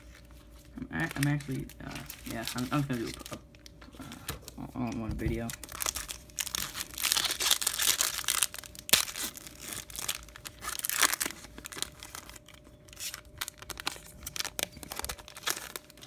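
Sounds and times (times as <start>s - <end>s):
wrapper and cards rustling: 0.0s - 16.0s
wrapper tearing and crackling: 0.9s - 16.0s.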